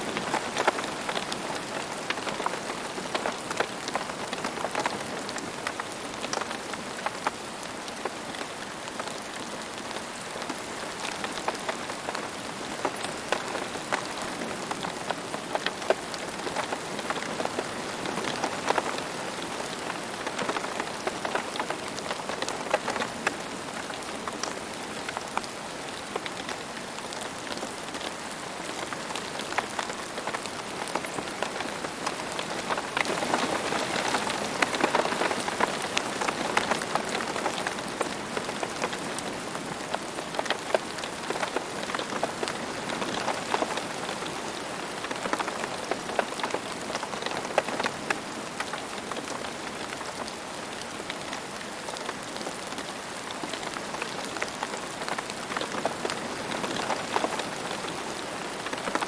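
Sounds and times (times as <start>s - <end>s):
rain on a hard surface: 0.0s - 59.0s.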